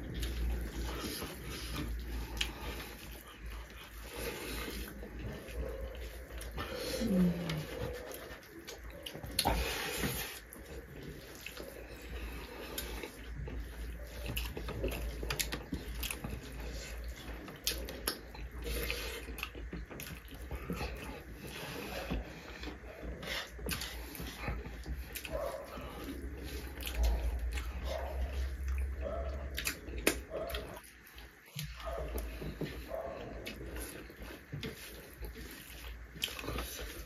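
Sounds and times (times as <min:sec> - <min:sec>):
chewing: 0:00.0 - 0:37.0
wet squishing of food mixed by hand: 0:00.0 - 0:37.0.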